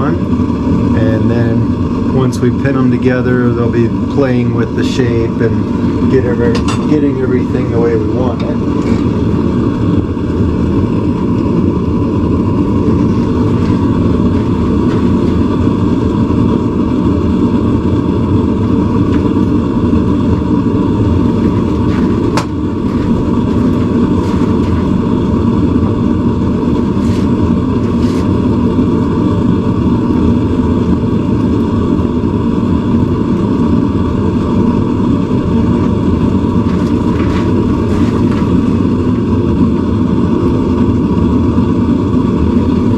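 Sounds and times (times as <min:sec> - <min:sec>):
forge burner rushing: 0:00.0 - 0:42.9.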